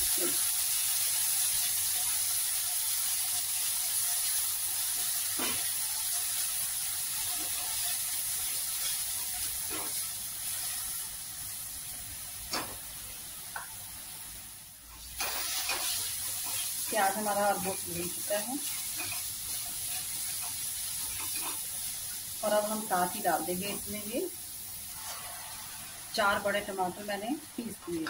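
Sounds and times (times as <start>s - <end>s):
onion sizzling in hot oil: 0.0s - 28.0s.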